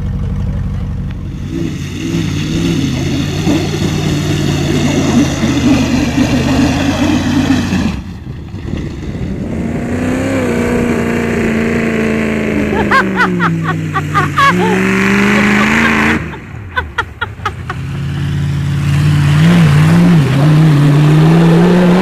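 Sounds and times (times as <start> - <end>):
engine revving hard: 1.3 - 22.0.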